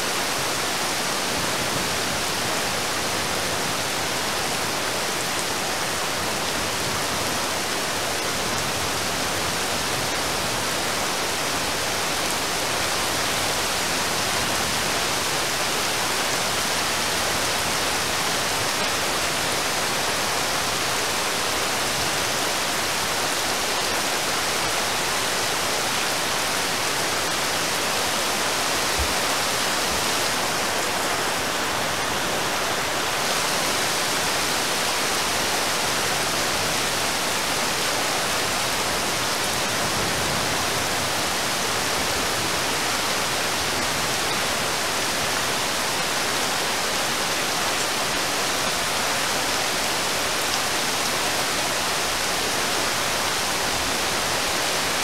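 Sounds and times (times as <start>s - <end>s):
rain falling on river: 0.0s - 55.0s.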